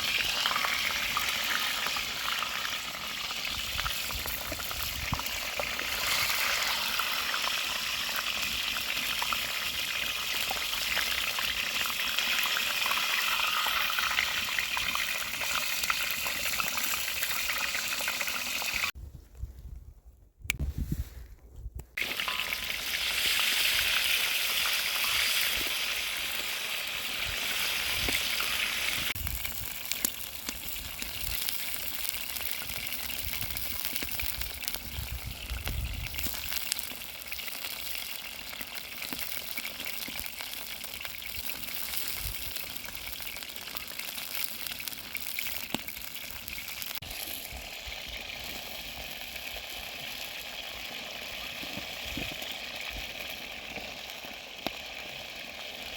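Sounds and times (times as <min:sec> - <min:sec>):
food sizzling in hot oil: 0:00.0 - 0:19.0, 0:22.0 - 0:55.9.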